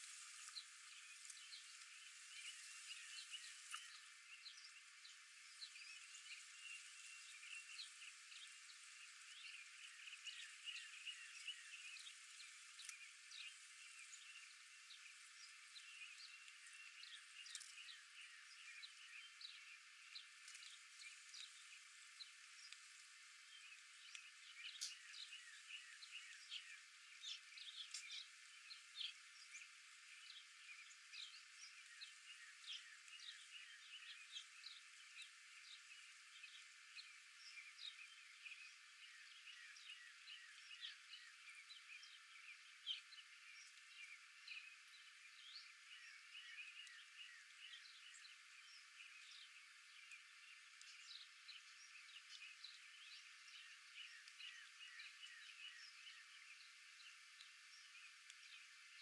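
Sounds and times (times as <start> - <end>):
high background hiss: 0.0 - 59.0
small birds chirping: 0.0 - 59.0.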